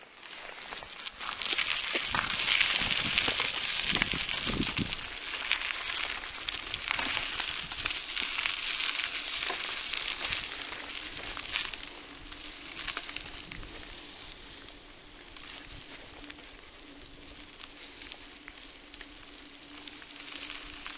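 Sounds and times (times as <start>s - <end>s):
bicycle tyres on gravel: 0.0s - 20.9s.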